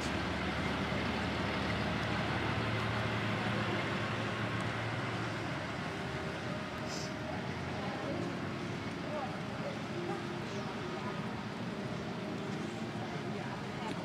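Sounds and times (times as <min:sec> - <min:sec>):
low hum and hiss of arena: 0:00.0 - 0:14.0.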